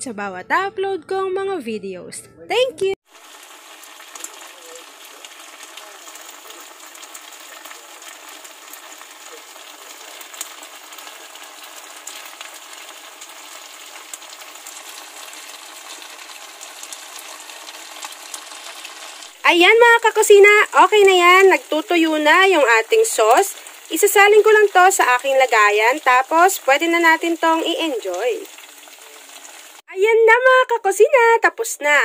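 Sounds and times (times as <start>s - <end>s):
meat sizzling in sauce: 3.0s - 29.9s.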